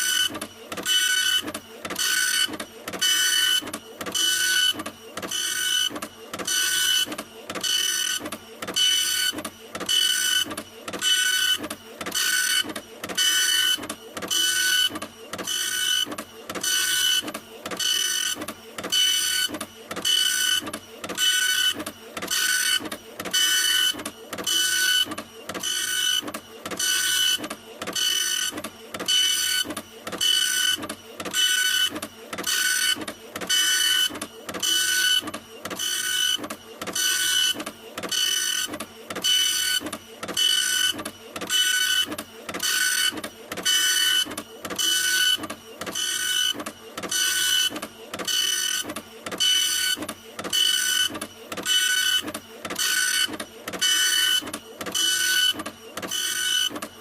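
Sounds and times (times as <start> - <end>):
printer whirring with high whine: 0.0 - 57.0.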